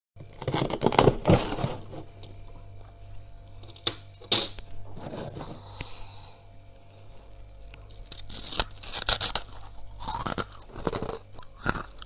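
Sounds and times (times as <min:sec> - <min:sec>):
freezer frost crunching: 0:00.2 - 0:03.3, 0:04.8 - 0:12.0.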